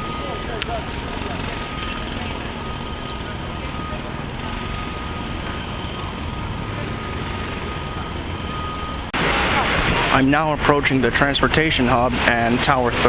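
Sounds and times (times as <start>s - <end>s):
constant thin whine: 0.0s - 13.0s
construction noise: 0.0s - 13.0s
street traffic: 0.0s - 13.0s.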